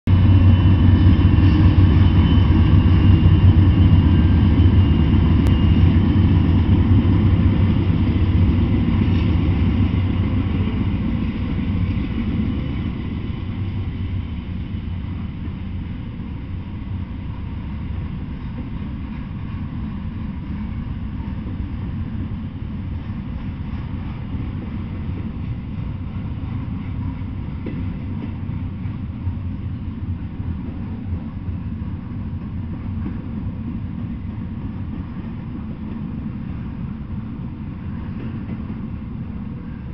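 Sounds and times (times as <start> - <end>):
diesel locomotive drone: 0.0 - 39.9
freight cars rumbling on rails: 0.0 - 39.9.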